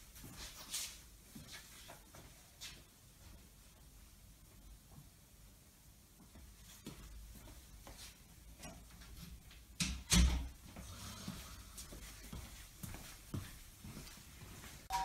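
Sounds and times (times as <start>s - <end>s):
soft footsteps: 0.0s - 5.2s, 6.1s - 9.8s, 10.5s - 15.0s.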